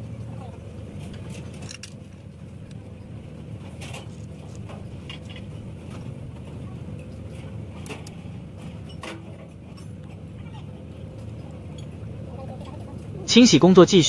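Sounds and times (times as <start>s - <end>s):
low mechanical rumble: 0.0s - 14.0s.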